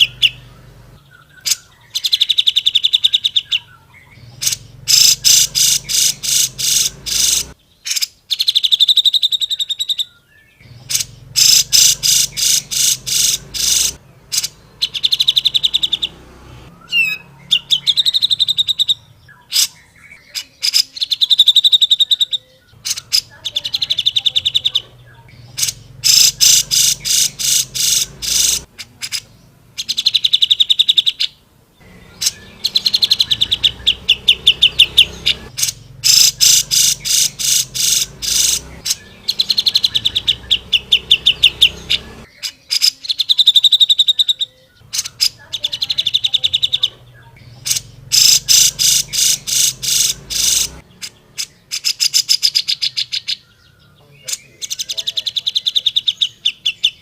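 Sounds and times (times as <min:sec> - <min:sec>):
bird singing rattling trills: 0:00.0 - 0:57.0.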